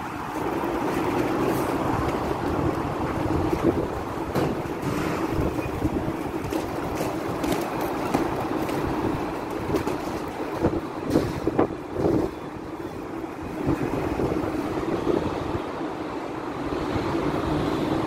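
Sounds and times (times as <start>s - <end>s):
city street traffic: 0.0s - 18.0s
wind rumbling on microphone: 0.0s - 18.0s.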